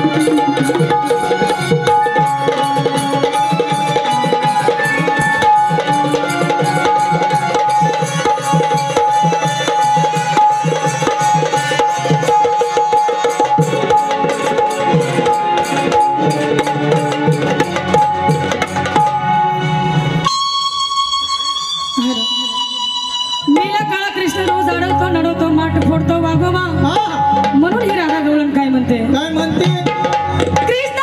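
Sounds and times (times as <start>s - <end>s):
fast hand drum rhythm: 0.0s - 19.2s, 23.5s - 31.0s.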